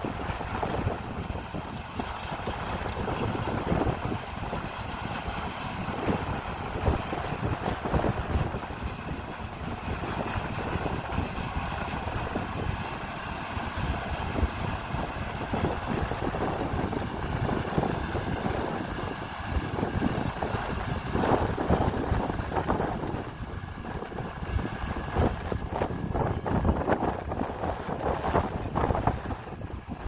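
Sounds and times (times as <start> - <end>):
large machinery running: 0.0 - 30.0
wind buffeting microphone: 0.0 - 30.0.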